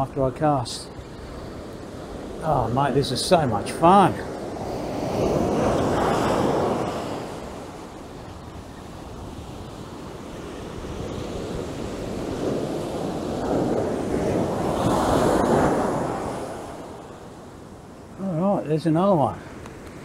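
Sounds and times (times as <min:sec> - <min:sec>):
wind buffeting microphone: 0:00.0 - 0:18.2
ocean surf breaking: 0:00.0 - 0:20.0.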